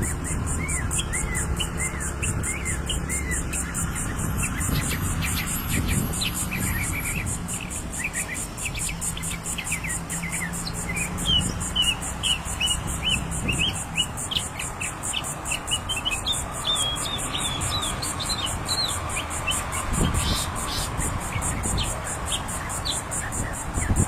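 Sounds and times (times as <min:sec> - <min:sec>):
bird chirping: 0:00.0 - 0:24.0
high-pitched insect trill: 0:00.0 - 0:24.0.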